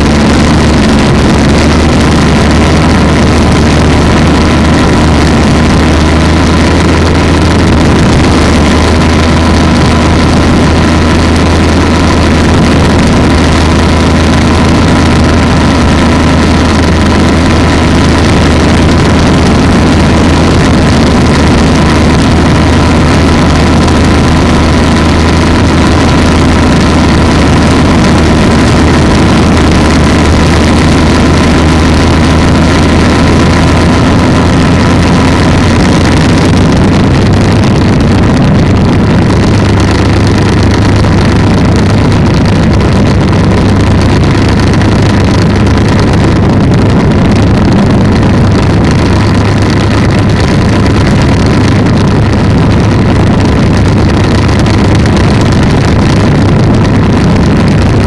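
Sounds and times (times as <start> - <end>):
two-stroke engine droning: 0.0 - 58.0.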